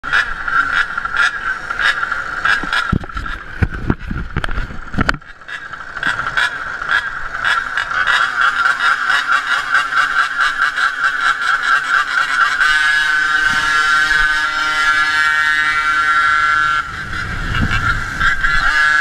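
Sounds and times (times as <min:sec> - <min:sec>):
small two-stroke engines buzzing: 0:00.0 - 0:19.0.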